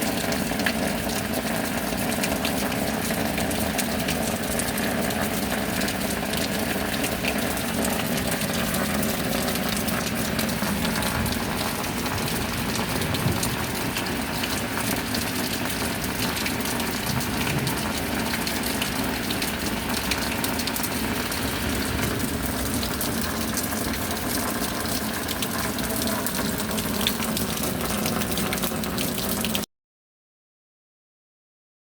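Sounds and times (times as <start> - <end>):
steady rain: 0.0 - 29.7.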